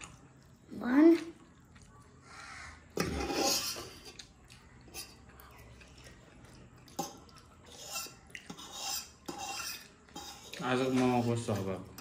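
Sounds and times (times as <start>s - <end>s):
person chewing food: 0.0s - 10.8s.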